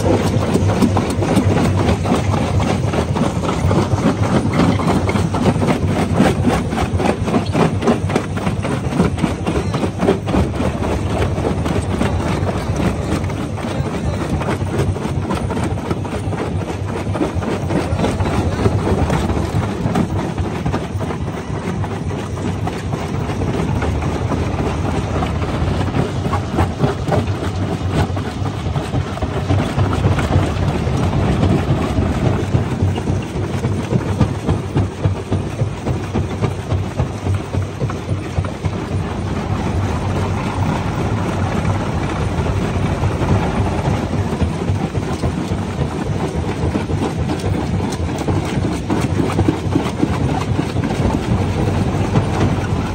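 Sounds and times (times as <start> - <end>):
low machine rumble: 0.0 - 52.9.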